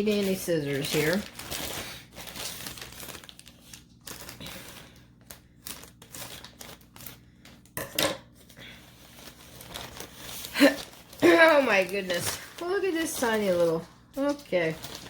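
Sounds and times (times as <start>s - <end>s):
packaging crinkling: 0.0s - 7.8s, 8.4s - 15.0s.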